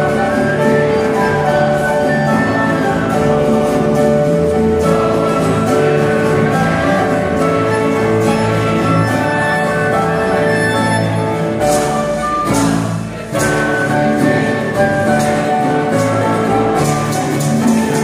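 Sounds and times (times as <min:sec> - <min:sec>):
church band playing a hymn: 0:00.0 - 0:18.0.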